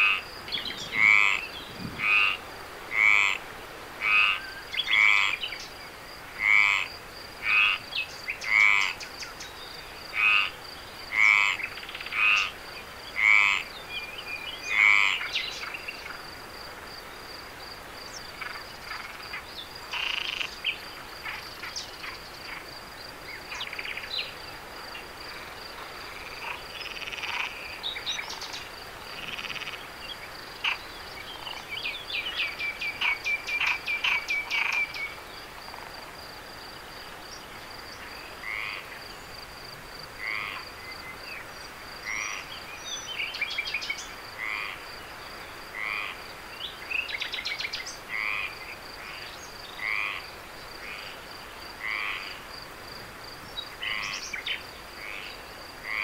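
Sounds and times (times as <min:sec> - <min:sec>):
frogs calling: 0:00.0 - 0:52.6, 0:53.2 - 0:56.0.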